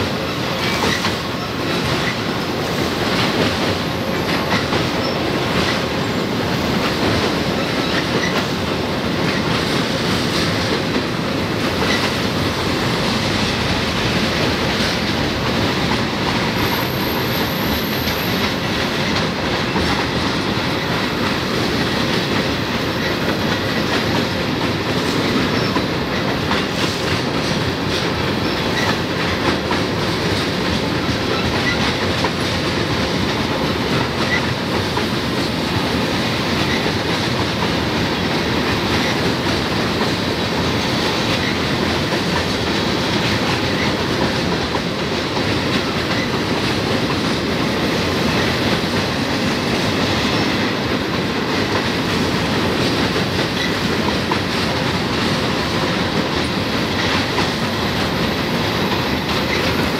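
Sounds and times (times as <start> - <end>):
steel wheels rolling on rail: 0.0 - 59.9.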